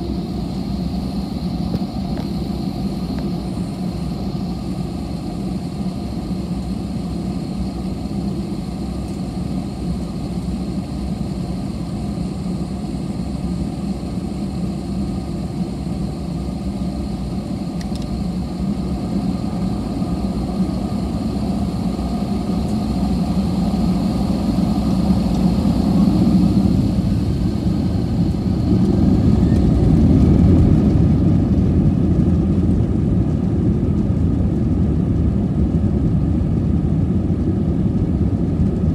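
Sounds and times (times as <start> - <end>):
jet engines roaring in cabin: 0.0 - 38.9.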